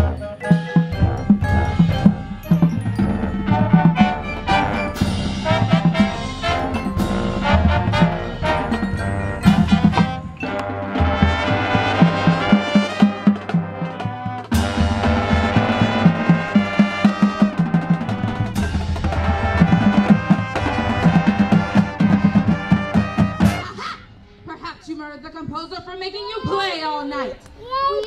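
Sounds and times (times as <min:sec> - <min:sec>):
marching band playing: 0:00.0 - 0:24.6.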